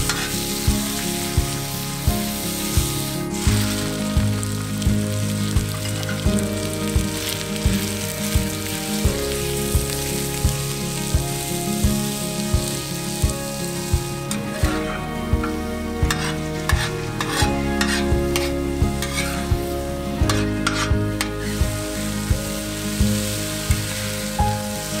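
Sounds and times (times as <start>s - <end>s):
background music with a beat: 0.0s - 25.0s
chicken sizzling in a pan: 0.0s - 25.0s.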